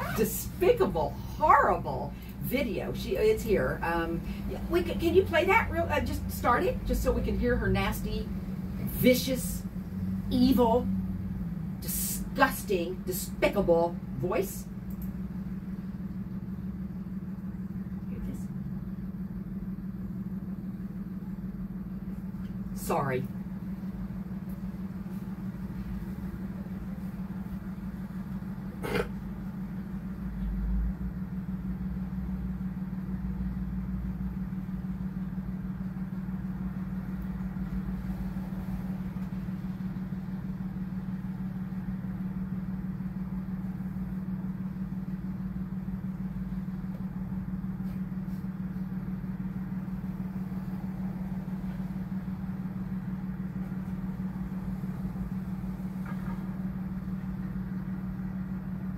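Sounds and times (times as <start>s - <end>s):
low room hum: 0.0s - 58.9s.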